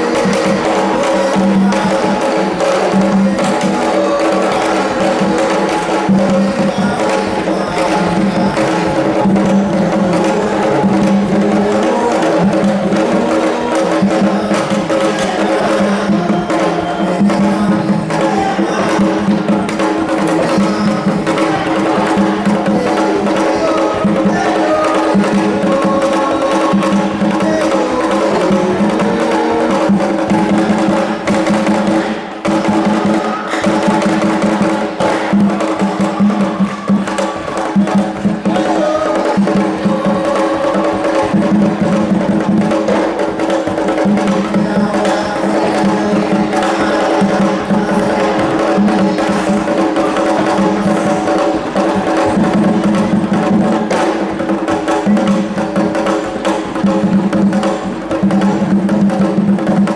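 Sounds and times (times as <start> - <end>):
drums and percussion music: 0.0 - 59.9.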